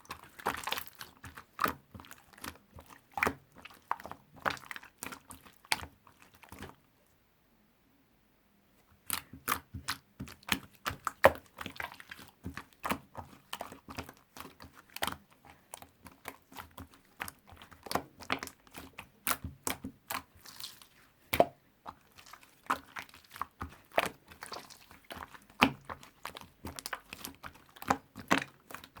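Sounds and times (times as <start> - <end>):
slime squished by hand: 0.0 - 6.8, 9.0 - 29.0.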